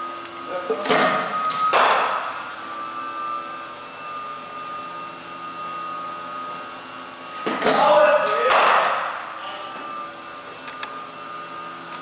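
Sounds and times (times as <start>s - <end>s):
machine hum with whine: 0.0s - 12.0s.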